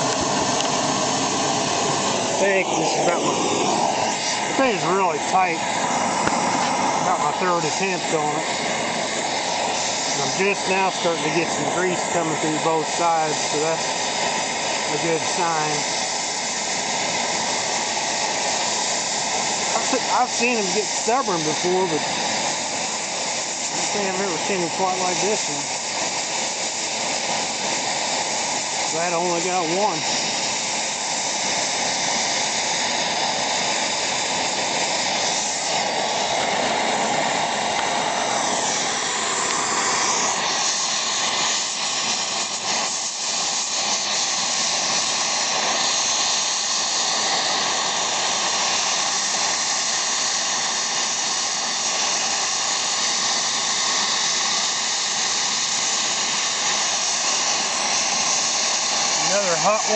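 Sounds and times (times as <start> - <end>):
gas torch hissing: 0.0 - 59.9.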